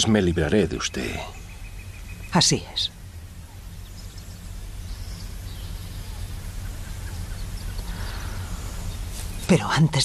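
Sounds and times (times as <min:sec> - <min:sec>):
faint bird calls: 0:00.0 - 0:09.8
steady low hum: 0:00.0 - 0:10.0.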